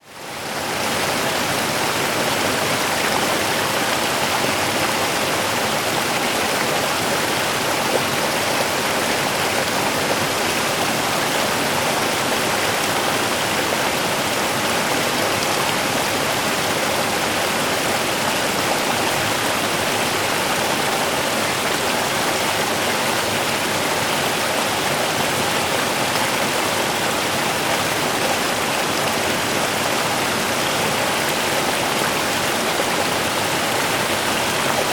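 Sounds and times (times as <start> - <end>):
water rushing over stones: 0.2 - 34.9.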